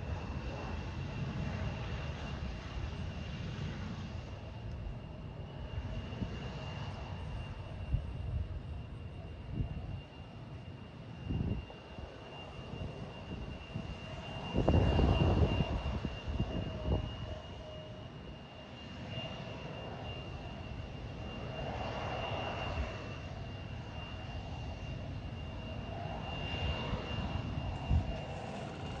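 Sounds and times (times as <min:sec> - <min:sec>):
aircraft engines whining: 0:00.0 - 0:29.0.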